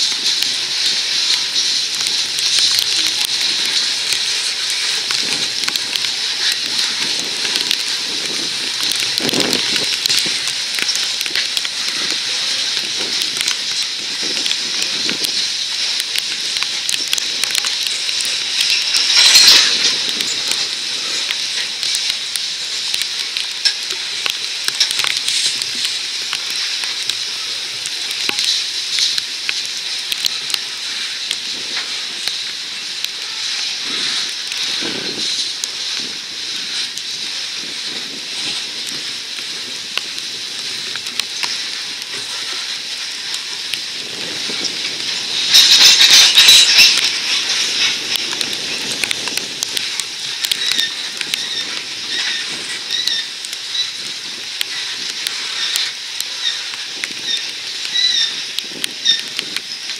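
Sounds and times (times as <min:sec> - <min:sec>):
rain crackling: 0:00.0 - 0:59.9
train wheels hissing on rails: 0:00.0 - 0:59.9.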